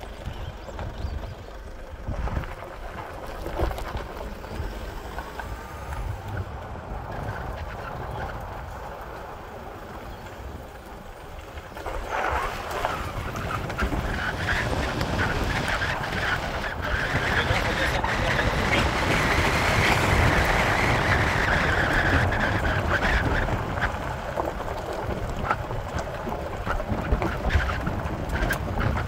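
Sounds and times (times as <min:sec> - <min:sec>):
engine and road rumble: 0:00.0 - 0:29.0
tyres crunching on gravel: 0:00.0 - 0:29.0.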